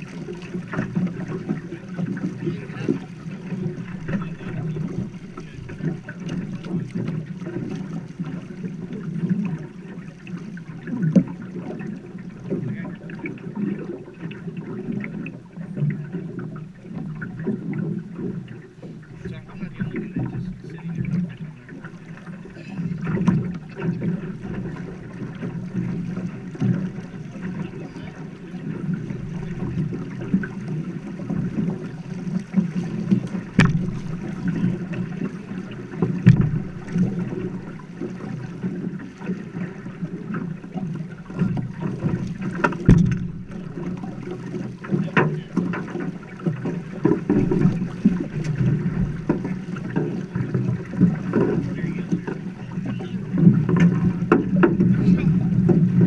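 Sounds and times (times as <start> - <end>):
knocks against boat: 0.0 - 10.0, 14.6 - 56.0
river water rushing and splashing: 0.0 - 56.0.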